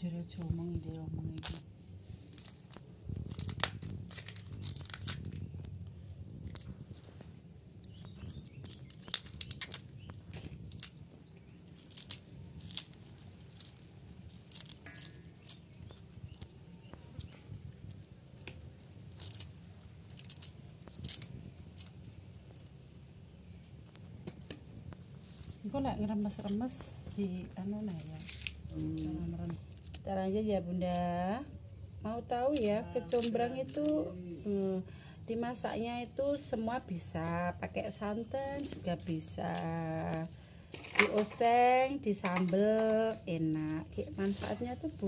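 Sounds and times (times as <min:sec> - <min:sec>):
low steady hum: 0:00.0 - 0:45.0
flower petals crackling and snapping: 0:00.3 - 0:45.0.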